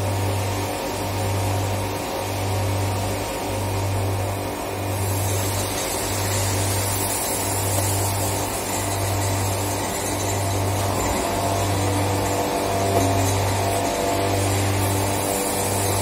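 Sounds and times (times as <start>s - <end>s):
factory machinery drone: 0.0s - 16.0s.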